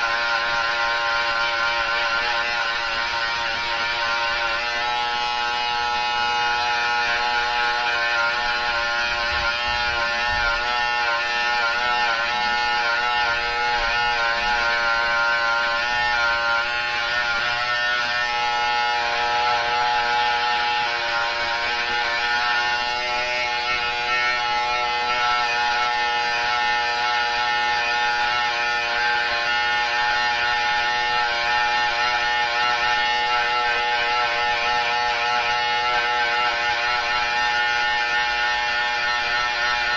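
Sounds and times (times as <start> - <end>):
electric hair trimmer running: 0.0 - 39.9.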